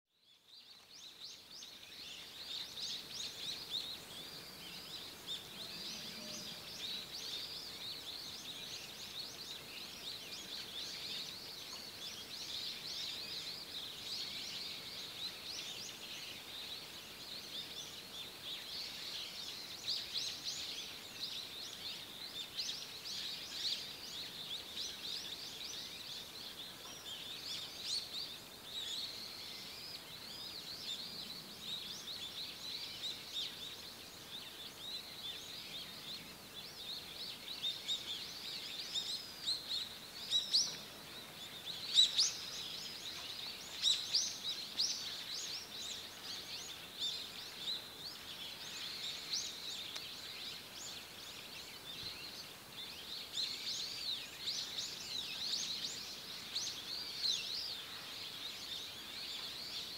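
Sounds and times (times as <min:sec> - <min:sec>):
faint background hiss: 0:00.1 - 0:59.9
small birds chirping: 0:00.1 - 0:59.9.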